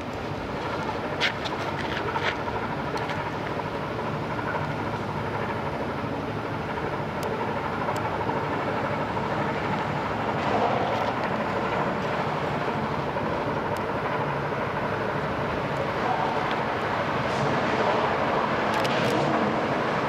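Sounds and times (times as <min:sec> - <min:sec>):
ship engines droning: 0:00.0 - 0:20.0
faint steady tones: 0:02.4 - 0:18.7.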